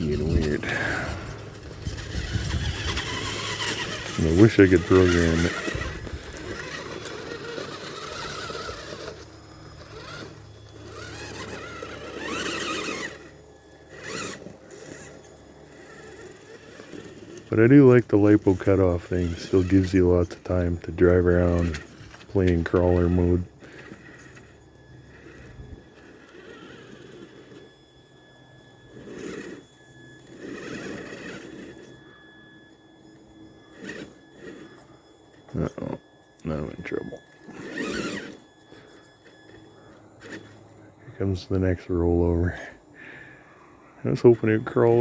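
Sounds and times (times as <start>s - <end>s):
electric motor whining: 0.0s - 45.0s.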